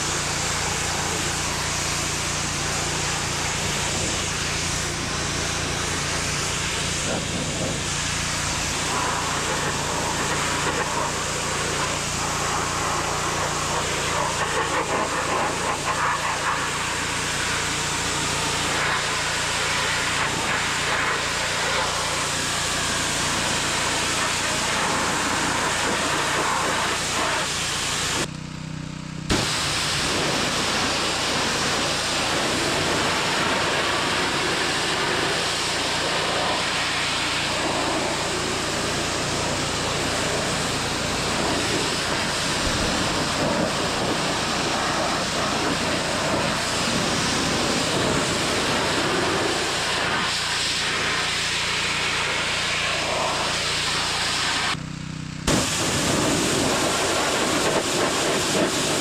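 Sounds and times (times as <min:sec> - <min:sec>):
pressure washer jet hissing: 0:00.0 - 0:28.3, 0:29.3 - 0:54.8, 0:55.5 - 0:59.0
pressure washer hum: 0:00.0 - 0:59.0.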